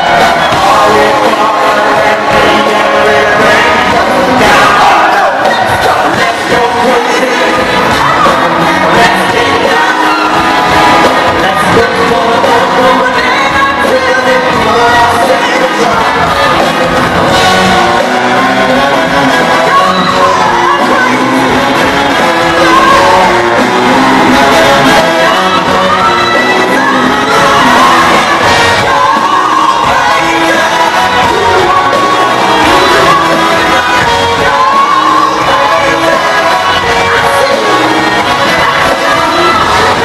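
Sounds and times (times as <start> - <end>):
crowd shouting: 0.0 - 40.0
live funk rock band: 0.0 - 40.0
person singing: 0.0 - 40.0.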